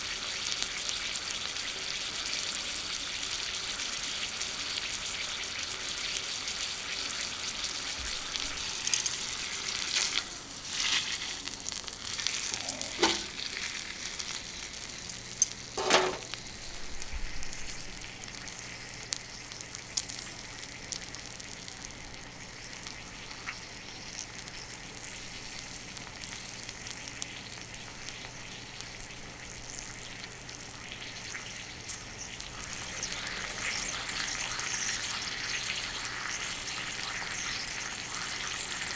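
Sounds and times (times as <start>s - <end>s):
steak sizzling on a griddle: 0.0s - 38.9s.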